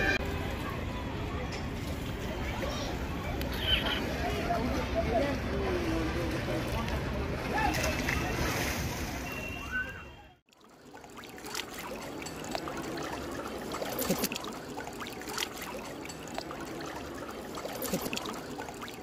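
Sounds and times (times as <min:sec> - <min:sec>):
river water splashing: 0:01.6 - 0:19.0.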